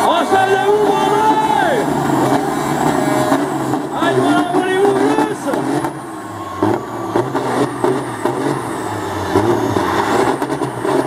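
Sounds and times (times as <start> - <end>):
diesel truck engine under load: 0.0 - 11.0
tires spinning: 0.0 - 11.0.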